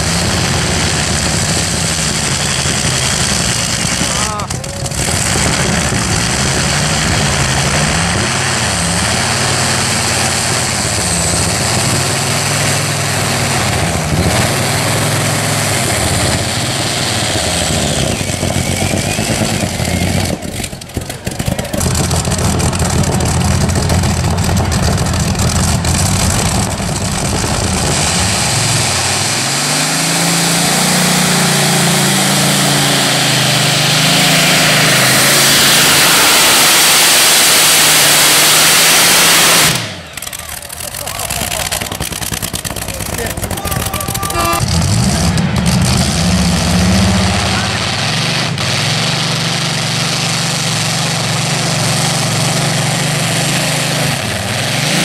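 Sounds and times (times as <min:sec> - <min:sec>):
tractor engine at full power: 0:00.0 - 0:55.0.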